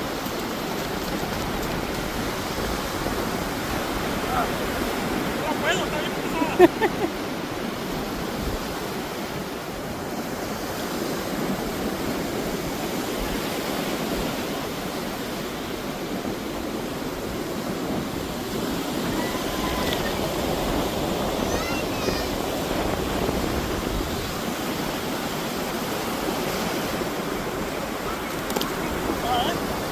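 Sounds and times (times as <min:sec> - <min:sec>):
ocean surf washing in: 0:00.0 - 0:29.9
wind on microphone: 0:00.0 - 0:29.9.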